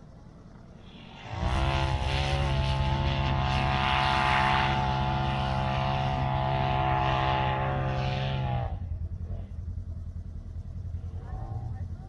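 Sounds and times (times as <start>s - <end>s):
off-road vehicle engine idling: 0.0s - 12.0s.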